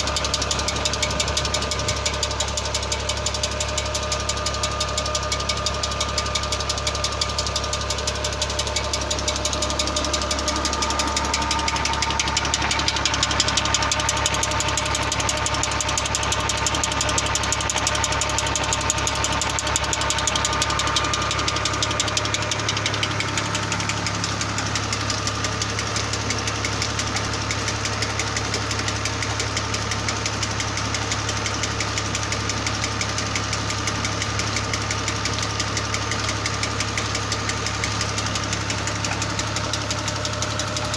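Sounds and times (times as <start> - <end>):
tractor diesel engine knocking: 0.0 - 40.9.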